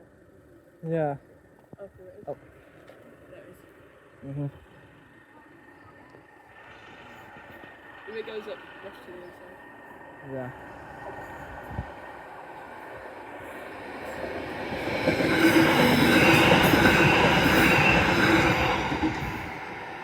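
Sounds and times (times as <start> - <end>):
electric train passing: 2.1 - 20.0.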